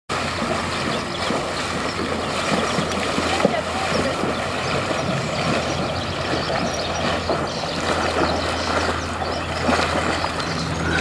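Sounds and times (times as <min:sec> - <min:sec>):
constant low rumble: 0:00.1 - 0:11.0
horse splashing through water: 0:00.1 - 0:11.0.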